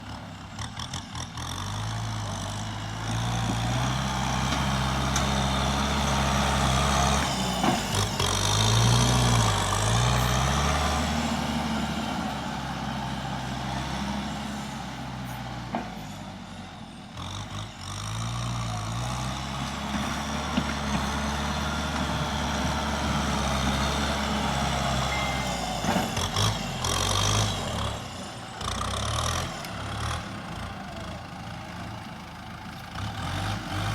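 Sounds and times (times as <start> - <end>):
tractor engine revving: 0.0 - 33.9.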